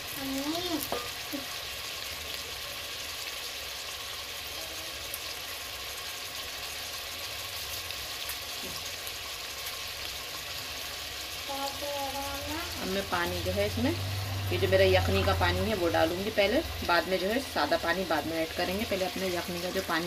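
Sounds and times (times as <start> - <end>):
meat sizzling in a pot: 0.0 - 20.0.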